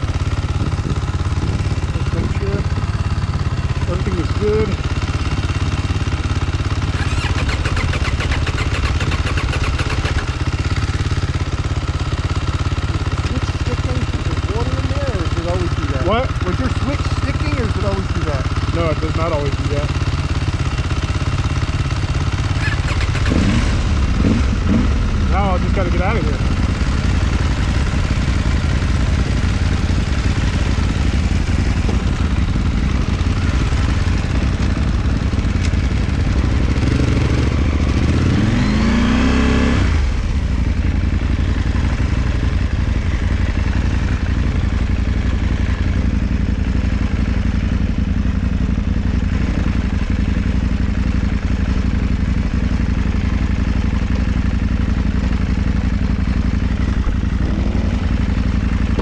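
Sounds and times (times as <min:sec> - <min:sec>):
motorcycle engine revving: 0:00.0 - 0:59.0
motorcycle engine running: 0:00.0 - 0:59.0.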